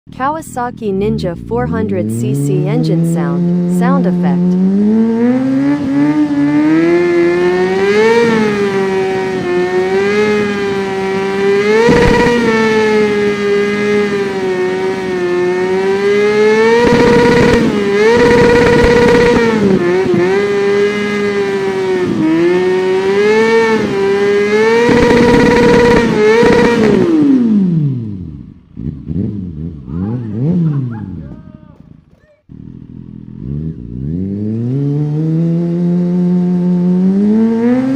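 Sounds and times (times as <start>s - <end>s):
motorcycle engine revving: 0.6s - 37.9s.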